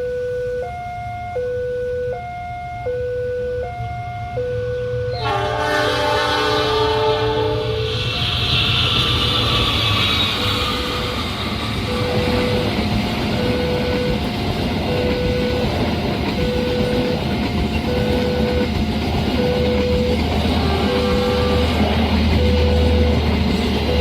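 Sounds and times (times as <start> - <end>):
two-tone crossing warning signal: 0.0 - 24.0
train rumbling over crossing: 3.8 - 24.0.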